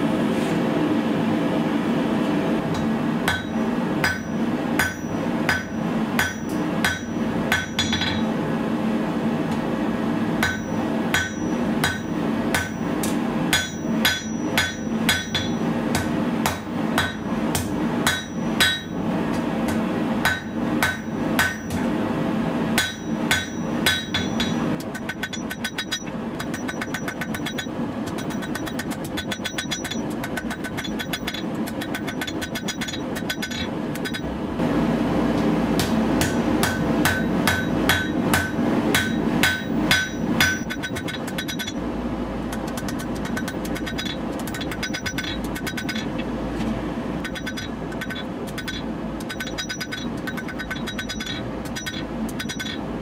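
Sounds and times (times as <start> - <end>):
hammer striking steel on anvil: 2.7 - 8.4, 10.4 - 21.9, 22.8 - 34.3, 35.8 - 41.9, 42.5 - 46.3, 47.2 - 52.9.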